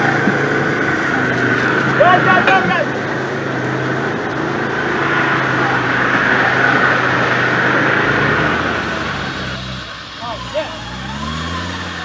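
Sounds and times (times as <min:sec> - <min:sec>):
diesel engine running under load: 0:00.0 - 0:12.0
tyres churning through mud: 0:00.0 - 0:12.0.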